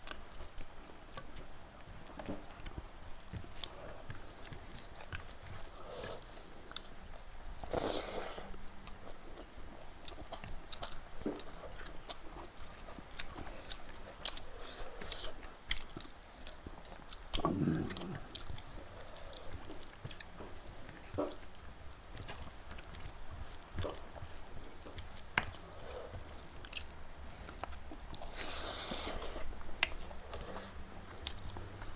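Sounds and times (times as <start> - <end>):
chewing with wet smacks: 0.0 - 31.9.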